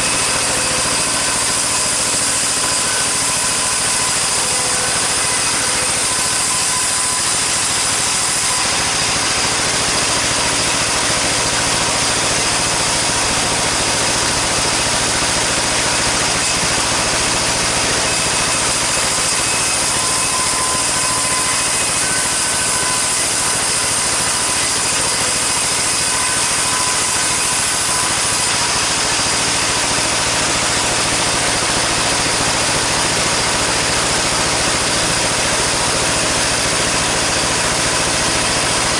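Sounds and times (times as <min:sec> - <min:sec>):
sawmill saw cutting timber: 0:00.0 - 0:38.9.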